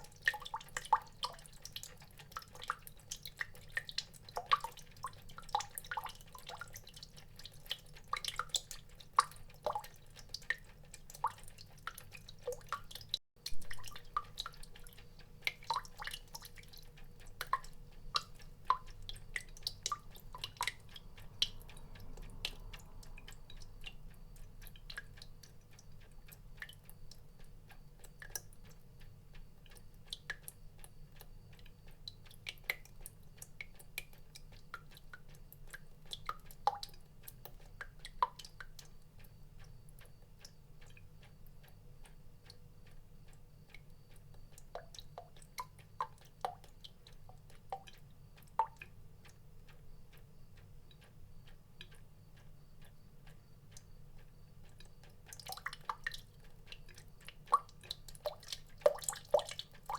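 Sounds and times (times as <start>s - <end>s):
water drops dripping: 0.0s - 59.9s.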